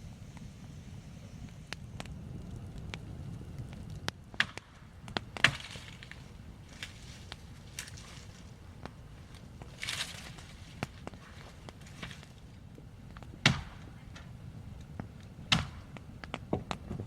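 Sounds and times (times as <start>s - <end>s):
low steady rumble: 0.0s - 17.0s
wood cracking and snapping: 2.0s - 17.0s.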